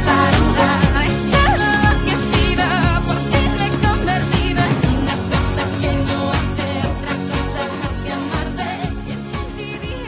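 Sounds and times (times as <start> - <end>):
pop music with singing: 0.0 - 10.0.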